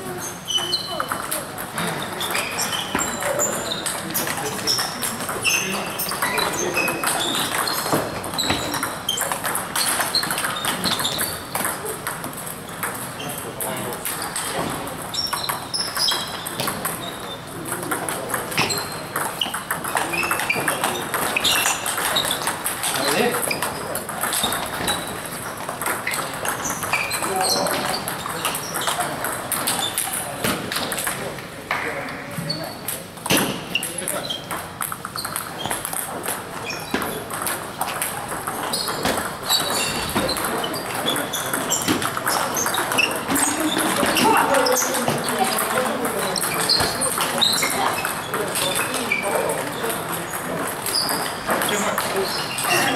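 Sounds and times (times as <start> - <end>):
table tennis ball knocking: 0.6 - 13.3, 13.9 - 31.3, 33.2 - 52.9.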